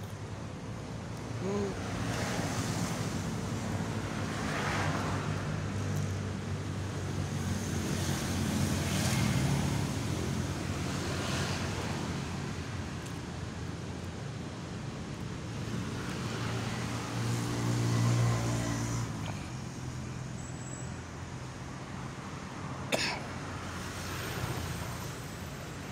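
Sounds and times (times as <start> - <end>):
road traffic: 0.0 - 25.9.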